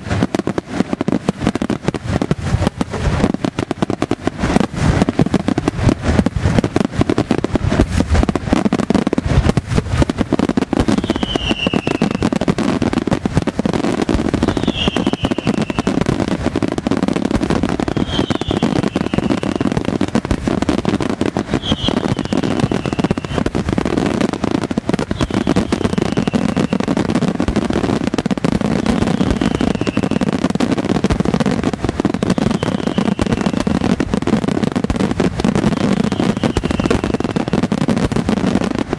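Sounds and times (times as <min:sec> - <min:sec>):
fireworks bangs and crackle: 0:00.0 - 0:38.9.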